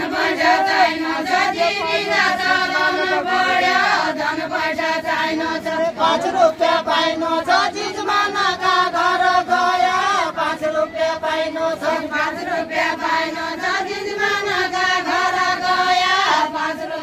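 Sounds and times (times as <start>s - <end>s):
group singing folk song in chorus: 0.0s - 17.0s.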